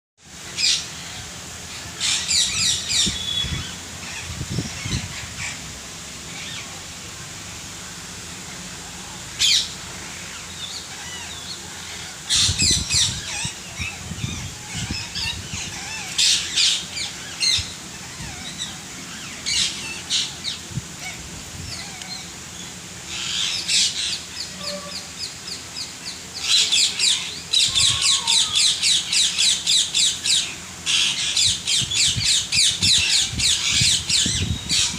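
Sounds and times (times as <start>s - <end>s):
parrots squawking: 1.8s - 5.6s, 9.4s - 25.3s, 26.4s - 34.9s.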